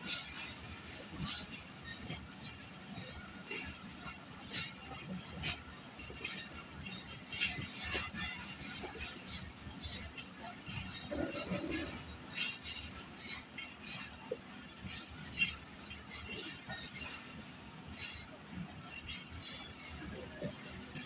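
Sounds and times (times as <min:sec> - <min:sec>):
metallic clinks from wheels: 0:00.0 - 0:21.0.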